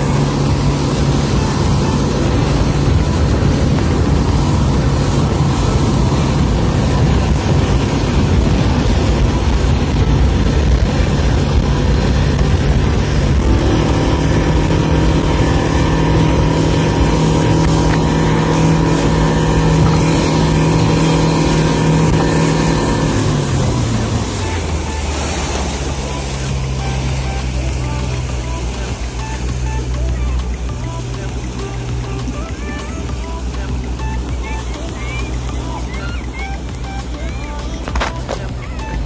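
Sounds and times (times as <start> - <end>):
wind rushing: 0.0 - 32.0
churning wake water: 0.0 - 39.0
outboard motor running: 0.0 - 39.0.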